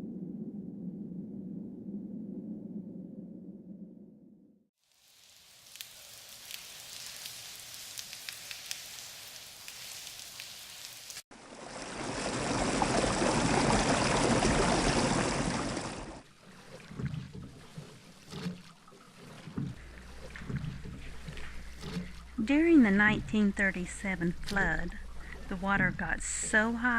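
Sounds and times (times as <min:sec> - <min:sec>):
rushing water: 0:04.8 - 0:26.9
trickling water: 0:04.8 - 0:26.9
water lapping and splashing: 0:04.8 - 0:26.9.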